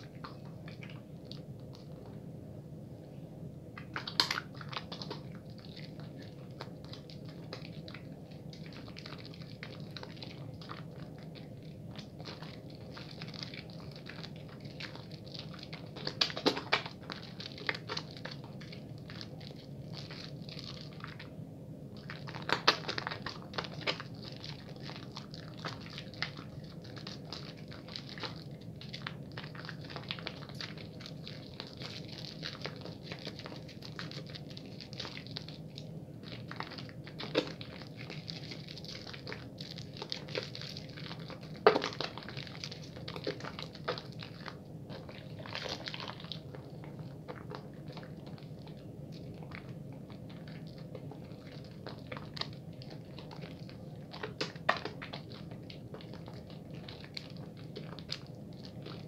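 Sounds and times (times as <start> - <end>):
soap lather squishing: 0.0 - 2.2, 3.7 - 59.0.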